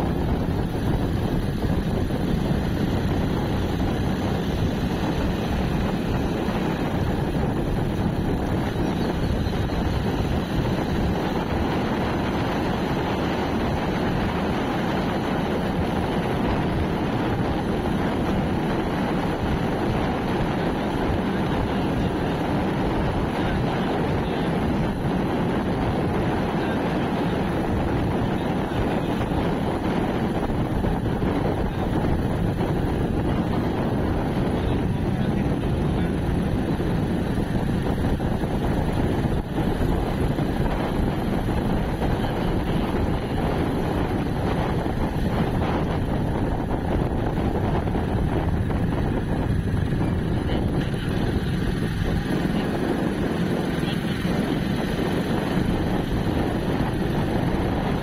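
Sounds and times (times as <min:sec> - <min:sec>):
tyre noise on road: 0:00.0 - 0:58.0
vehicle engine: 0:00.0 - 0:58.0
wind rush over microphone: 0:00.0 - 0:58.0.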